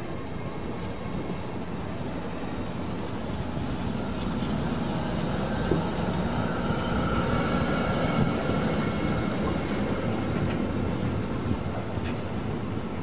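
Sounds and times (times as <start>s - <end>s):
train wheels rumbling on rails: 0.2s - 13.0s.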